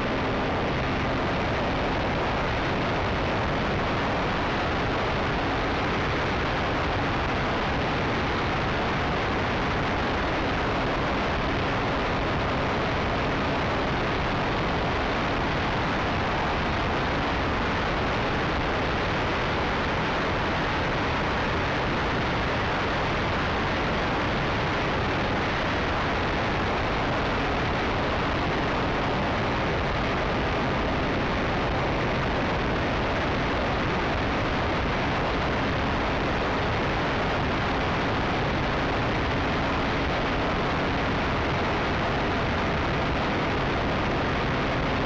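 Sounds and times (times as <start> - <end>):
wind noise on microphone: 0.0 - 45.0.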